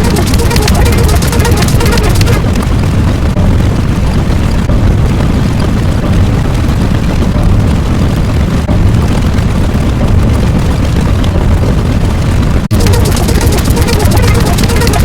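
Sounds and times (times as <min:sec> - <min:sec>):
loud low rumbling: 0:00.0 - 0:15.0
rapid even crackling: 0:00.0 - 0:15.0.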